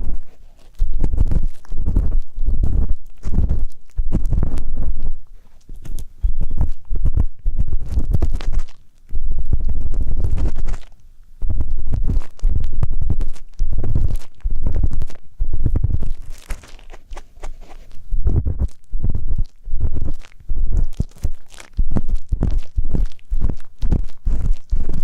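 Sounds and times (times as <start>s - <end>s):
ear pick scraping: 0.0s - 25.0s.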